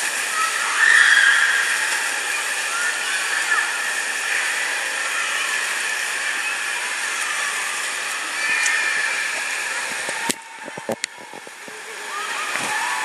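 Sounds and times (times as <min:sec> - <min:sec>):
surf churning and splashing: 0:00.0 - 0:13.0.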